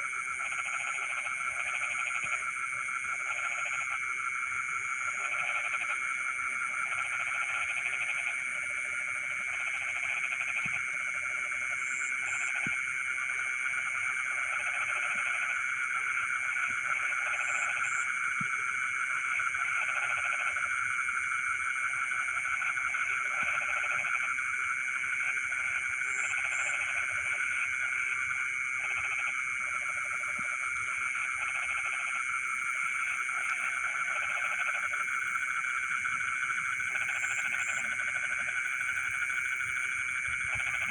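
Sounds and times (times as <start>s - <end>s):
frogs calling: 0.0s - 40.9s
insects trilling: 0.0s - 40.9s.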